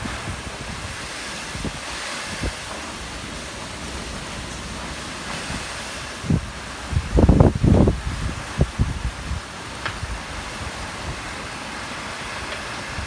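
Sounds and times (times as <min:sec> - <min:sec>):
strong wind blowing: 0:00.0 - 0:13.0
wind buffeting microphone: 0:00.0 - 0:13.0.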